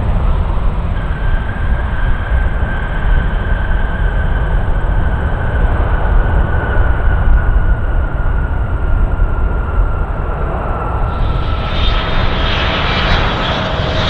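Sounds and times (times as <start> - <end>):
jet engine whine: 0.0 - 14.0
jet engines deep rumble: 0.0 - 14.0.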